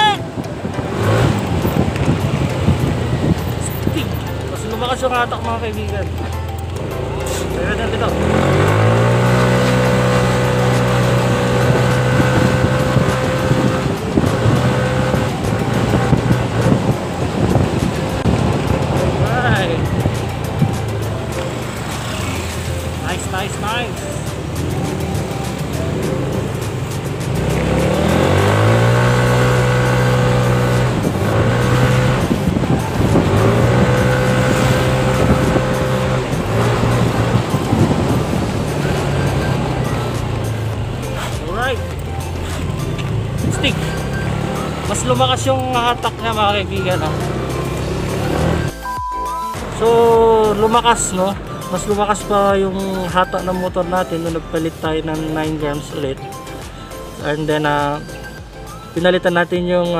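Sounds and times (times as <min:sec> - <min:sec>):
scooter engine under throttle: 0:00.0 - 0:06.2, 0:06.8 - 0:48.7.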